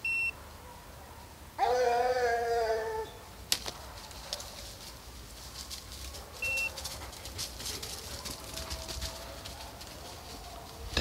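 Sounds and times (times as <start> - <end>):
distant hounds baying: 0.6 - 11.0.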